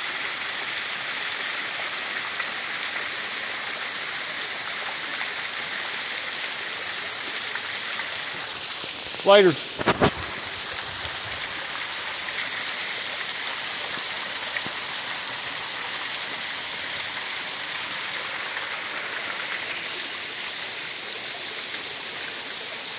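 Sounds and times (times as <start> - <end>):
small waterfall splashing: 0.0 - 22.9.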